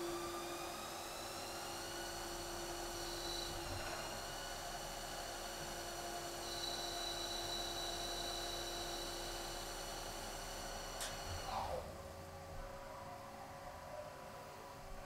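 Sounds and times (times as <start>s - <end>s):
lathe whining hum: 0.0s - 12.4s.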